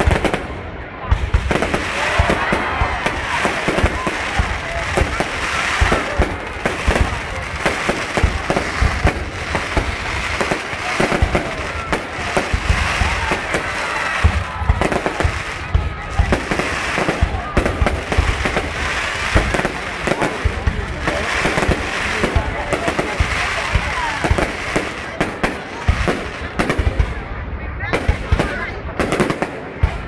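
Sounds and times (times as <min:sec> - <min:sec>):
faint voices: 0:00.0 - 0:30.0
fireworks bangs and crackling: 0:00.0 - 0:30.0.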